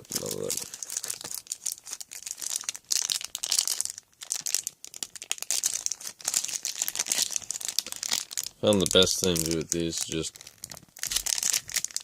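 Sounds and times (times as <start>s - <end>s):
card pack wrapper crinkling and tearing: 0.0s - 12.0s.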